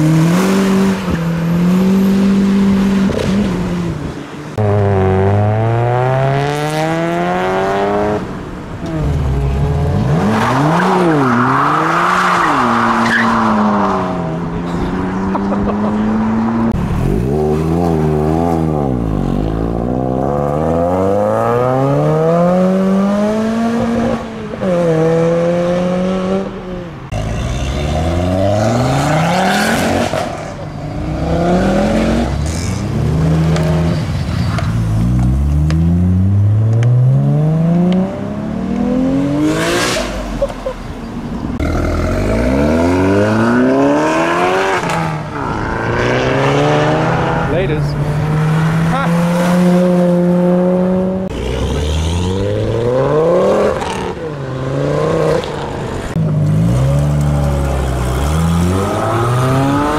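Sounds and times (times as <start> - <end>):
car engines revving and accelerating: 0.0 - 59.9.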